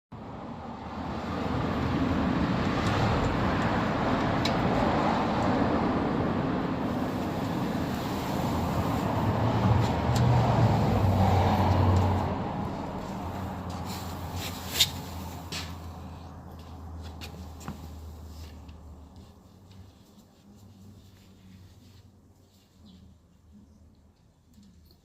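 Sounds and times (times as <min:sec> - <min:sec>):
motor vehicle running: 0:00.6 - 0:21.7.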